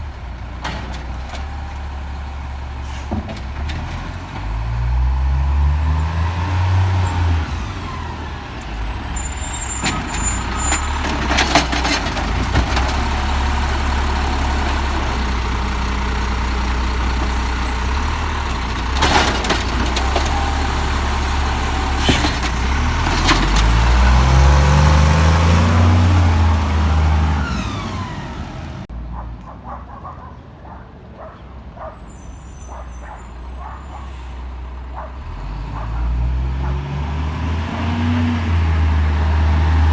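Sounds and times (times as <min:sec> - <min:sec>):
garbage truck diesel engine revving: 0:00.0 - 0:28.9, 0:34.4 - 0:39.9.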